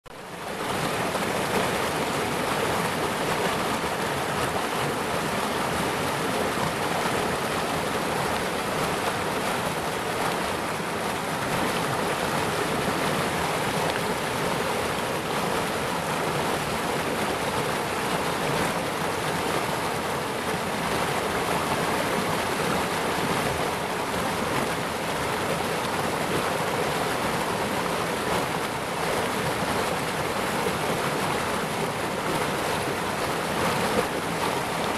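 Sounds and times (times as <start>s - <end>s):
stream rushing over rock ledge: 0.1s - 34.9s.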